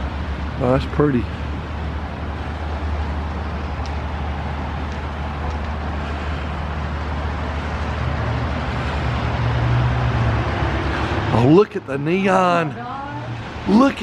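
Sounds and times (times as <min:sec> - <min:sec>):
road noise: 0:00.0 - 0:14.0
vehicle engine humming: 0:00.0 - 0:14.0.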